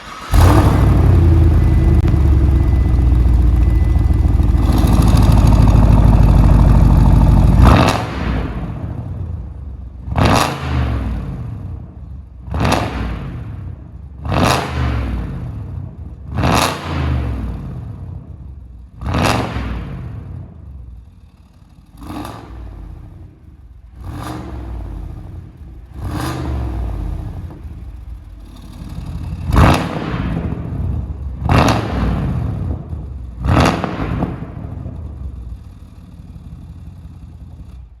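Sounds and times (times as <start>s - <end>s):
car engine revving: 0.0s - 18.2s, 18.8s - 38.0s.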